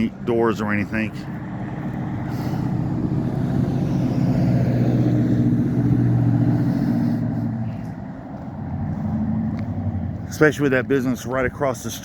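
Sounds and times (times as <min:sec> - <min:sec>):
vehicle driving past: 0:00.8 - 0:12.0.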